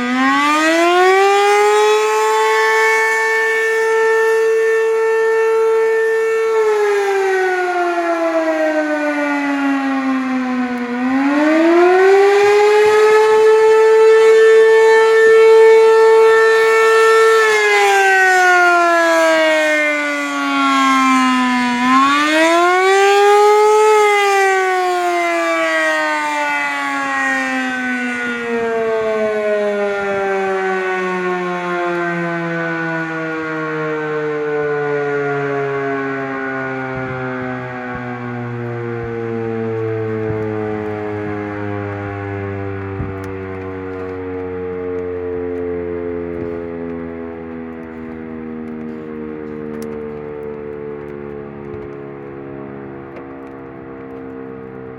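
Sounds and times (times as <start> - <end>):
civil defense siren wailing: 0.0 - 54.9.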